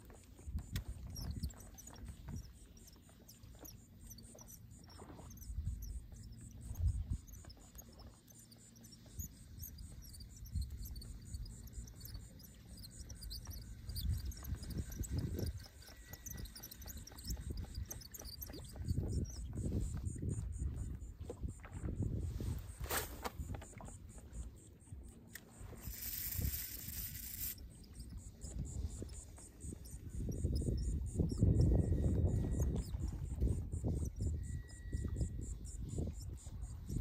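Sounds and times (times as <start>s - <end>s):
faint high crackle of ticks: 0.0s - 37.0s.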